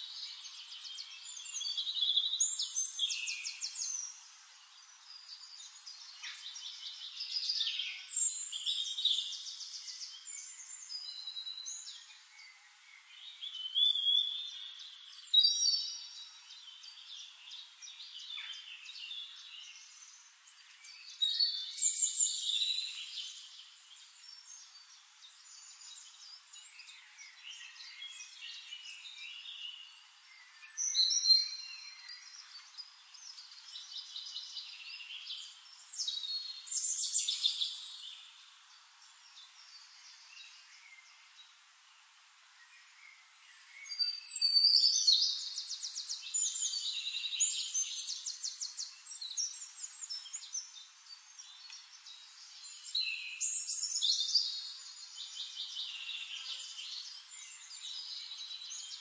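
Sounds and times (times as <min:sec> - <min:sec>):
birds chirping and singing: 0:00.0 - 0:41.3, 0:42.7 - 0:59.0.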